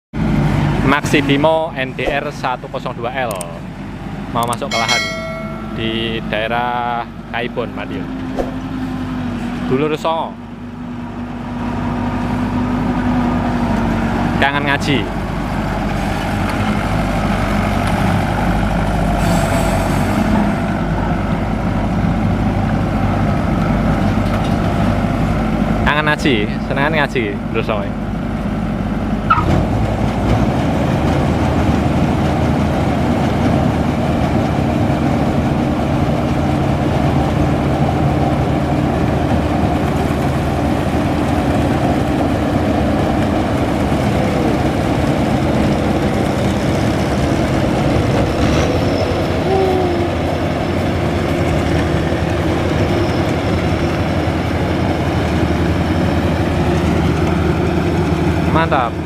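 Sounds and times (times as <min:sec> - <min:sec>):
combine harvester engine hum: 0:00.2 - 0:59.0.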